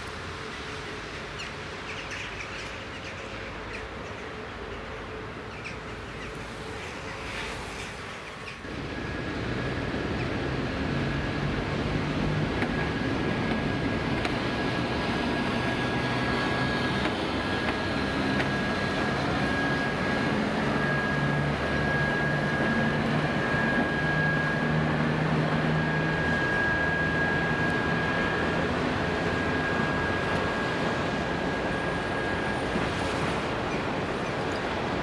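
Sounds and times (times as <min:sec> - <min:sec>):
diesel locomotive engine hum: 0:00.0 - 0:35.0
high steady whine: 0:00.0 - 0:35.0.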